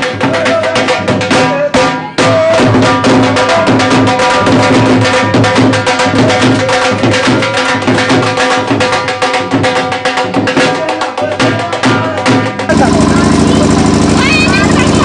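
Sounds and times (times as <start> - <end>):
drums beaten fast: 0.0 - 15.0.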